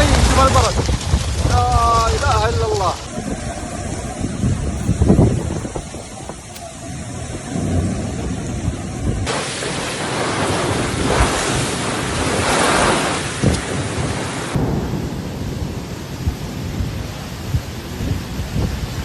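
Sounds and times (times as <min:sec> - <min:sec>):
heavy rain pouring: 0:00.0 - 0:19.0
wind rumbling on microphone: 0:00.0 - 0:19.0.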